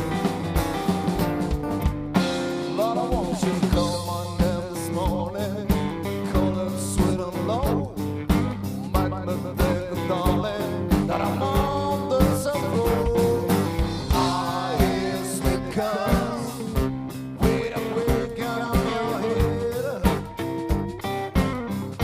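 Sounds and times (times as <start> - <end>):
bass guitar: 0.0 - 22.0
lead guitar with bent notes: 0.0 - 22.0
steady drum beat: 0.0 - 22.0.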